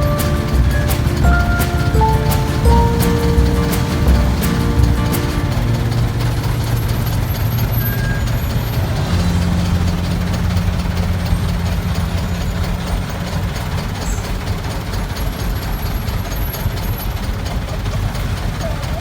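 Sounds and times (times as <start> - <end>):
heavy vehicle engine humming: 0.0 - 19.0.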